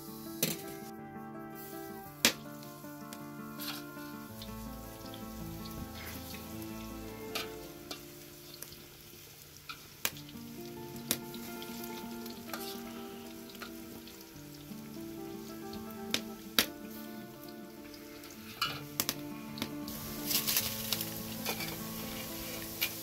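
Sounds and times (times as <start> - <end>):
food frying in hot oil: 3.6 - 23.0.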